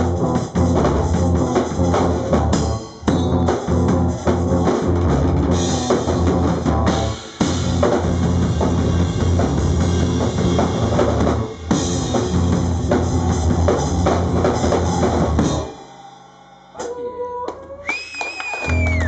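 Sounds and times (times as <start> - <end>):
drum kit: 0.0 - 17.0.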